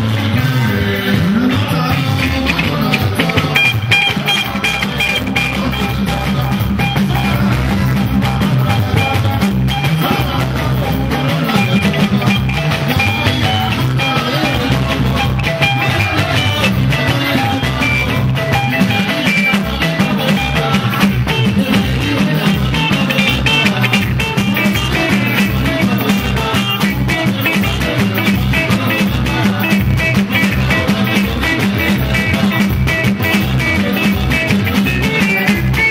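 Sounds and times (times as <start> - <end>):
drum kit beat: 0.0 - 35.9
electric guitars: 0.0 - 35.9.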